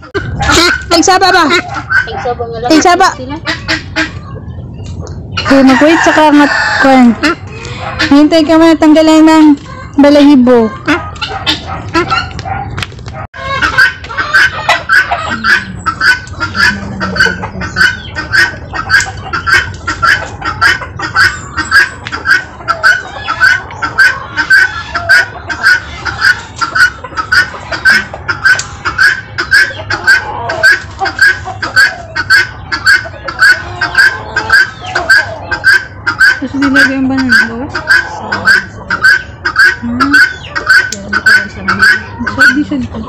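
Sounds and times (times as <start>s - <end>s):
guinea fowl alarm call: 0.1s - 12.5s, 13.4s - 43.0s.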